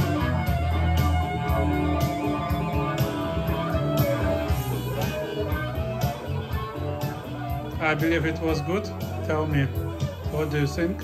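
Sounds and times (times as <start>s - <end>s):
blues-rock song with guitar and drums: 0.0s - 11.0s.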